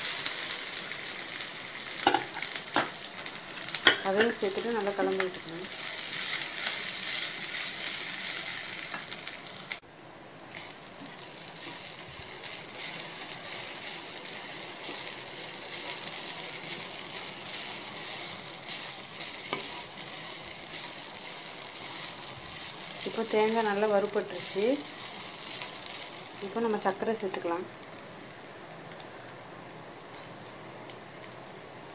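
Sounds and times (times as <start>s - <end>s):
food sizzling in hot fat: 0.0s - 9.8s, 10.4s - 31.9s.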